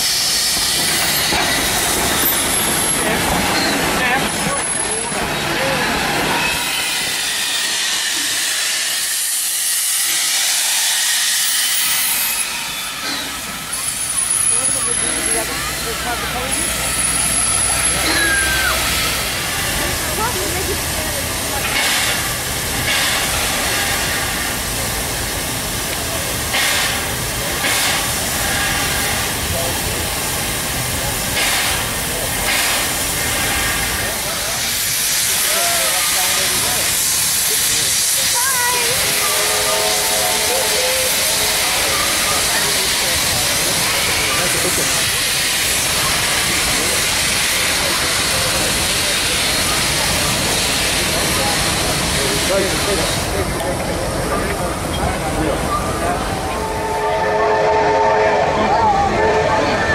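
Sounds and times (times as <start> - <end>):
louder bursts of steam hiss: 0.0 - 58.2
steam locomotive hissing: 0.0 - 59.9.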